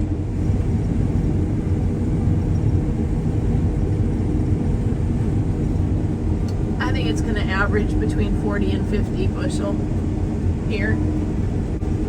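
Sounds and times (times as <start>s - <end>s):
combine harvester rumble: 0.0s - 12.0s.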